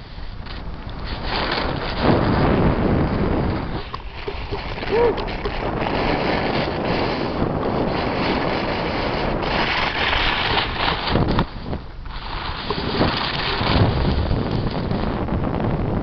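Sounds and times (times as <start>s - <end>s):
wind rushing over microphone: 0.0s - 16.0s
sliding over snow scraping: 0.5s - 15.6s.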